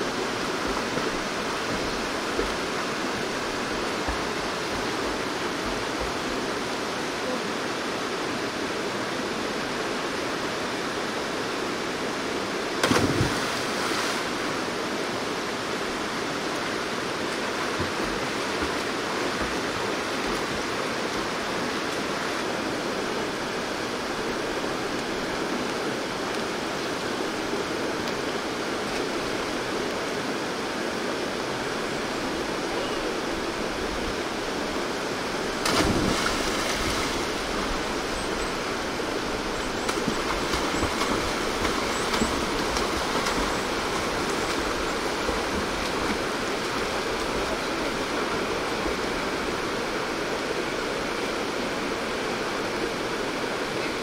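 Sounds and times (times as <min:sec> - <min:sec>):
stream rapids rushing: 0:00.0 - 0:54.0.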